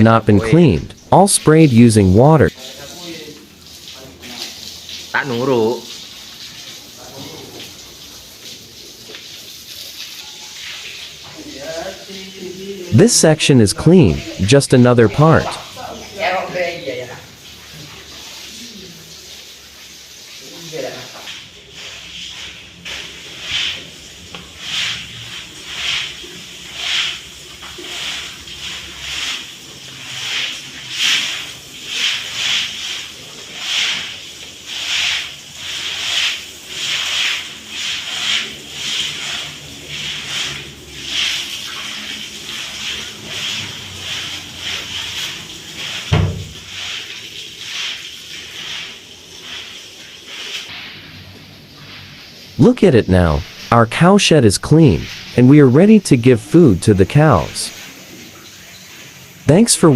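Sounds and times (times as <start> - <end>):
scrubbing wet floor: 1.0 - 54.0, 54.6 - 56.0, 57.1 - 59.9.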